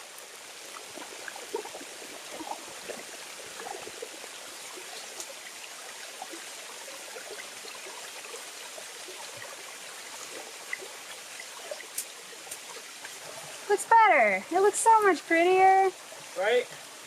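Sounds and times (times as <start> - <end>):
water dripping: 0.0 - 16.9
small waterfall splashing: 0.0 - 17.0.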